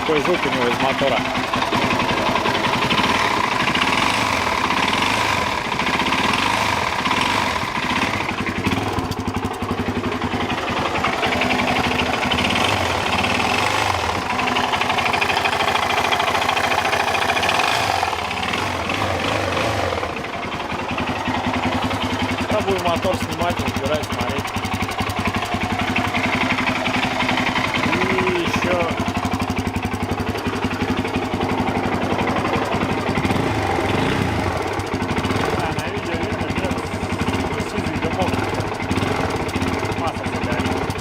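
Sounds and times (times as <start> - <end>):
motorcycle engine idling: 0.0 - 41.0
rapid knock inside engine: 0.0 - 41.0.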